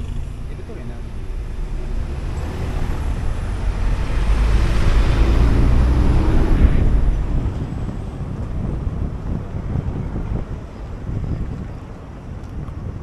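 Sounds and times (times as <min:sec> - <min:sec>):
road noise: 0:00.0 - 0:13.0
vehicle engine rumble passing: 0:00.0 - 0:13.0.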